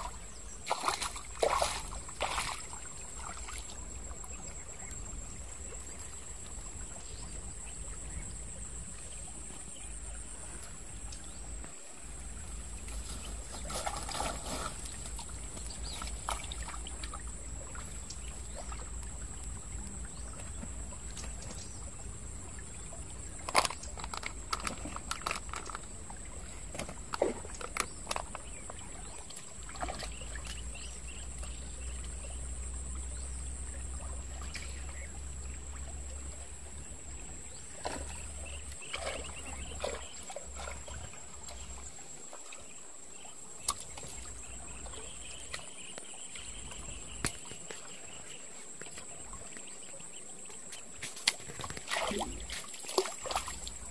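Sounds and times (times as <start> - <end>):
stream water trickling: 0.0 - 53.9.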